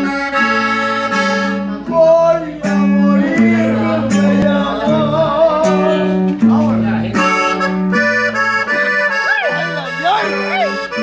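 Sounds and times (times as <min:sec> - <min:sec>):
bass line: 0:00.0 - 0:11.0
electric guitar chords: 0:00.0 - 0:11.0.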